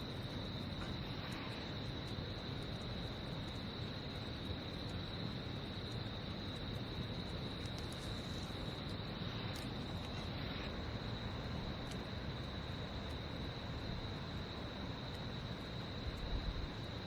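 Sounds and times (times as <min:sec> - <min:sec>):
crickets singing: 0:00.0 - 0:17.0.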